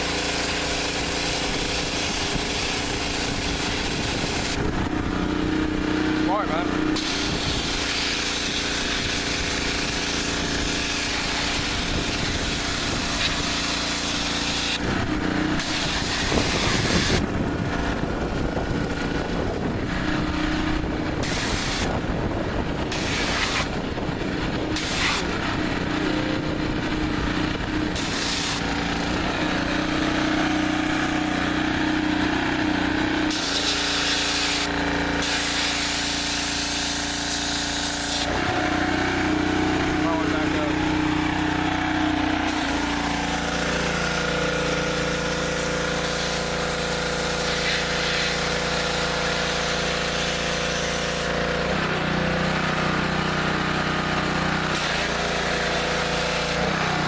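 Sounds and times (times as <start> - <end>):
pressure washer spraying: 0.0 - 57.0.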